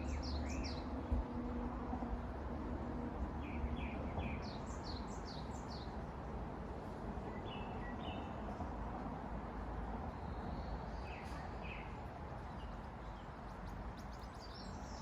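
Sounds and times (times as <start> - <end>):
distant traffic rumble: 0.0 - 15.0
songbirds chirping: 0.0 - 15.0.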